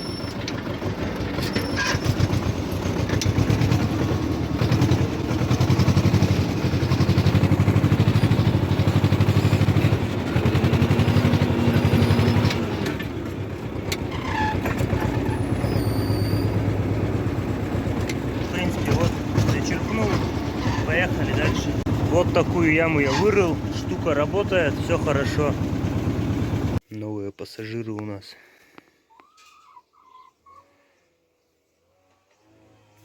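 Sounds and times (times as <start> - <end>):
tractor engine under load: 0.0 - 26.8.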